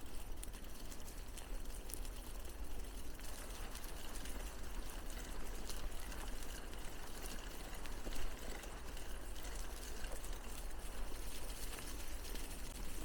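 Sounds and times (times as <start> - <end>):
bicycle rolling along path: 0.0 - 13.0
small clicks and rattles: 0.0 - 13.0.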